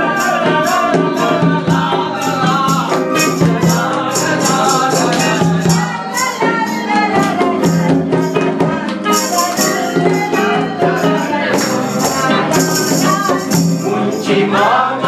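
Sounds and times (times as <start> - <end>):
man singing: 0.0 - 6.7, 7.5 - 15.0
rattling hand percussion: 0.0 - 15.0.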